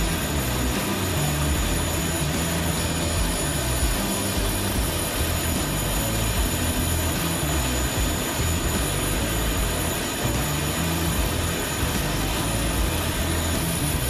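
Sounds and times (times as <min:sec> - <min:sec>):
aircraft engine running: 0:00.0 - 0:14.0
high-pitched whining tones: 0:00.0 - 0:14.0.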